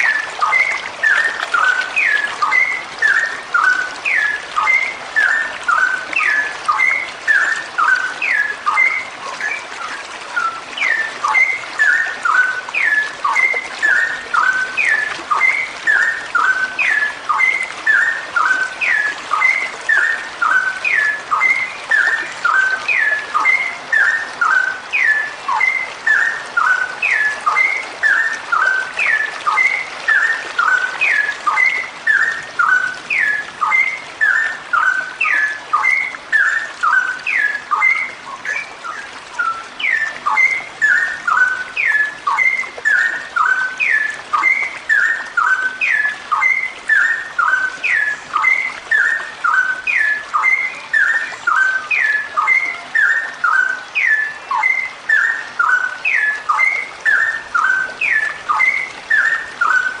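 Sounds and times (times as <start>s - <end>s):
bird singing whistled notes: 0.0s - 60.0s.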